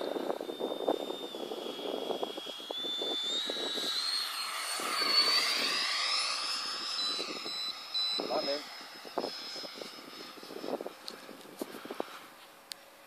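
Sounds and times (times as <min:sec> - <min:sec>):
model jet fan whining: 0:00.0 - 0:13.0.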